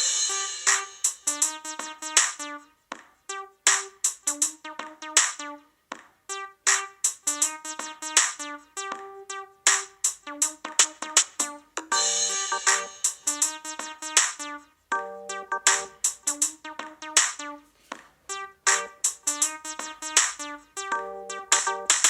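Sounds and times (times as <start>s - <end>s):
music through phone speaker: 0.0s - 22.0s.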